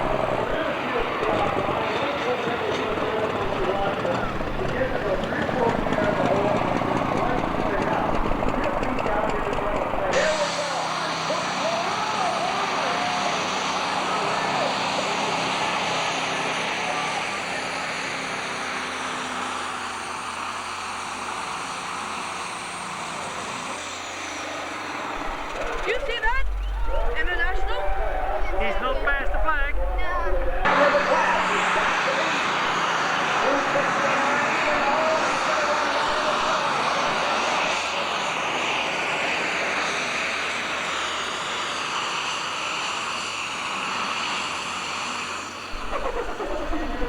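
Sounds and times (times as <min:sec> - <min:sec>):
high turbo whine: 0:00.0 - 0:47.0
tractor diesel engine at full power: 0:00.0 - 0:47.0.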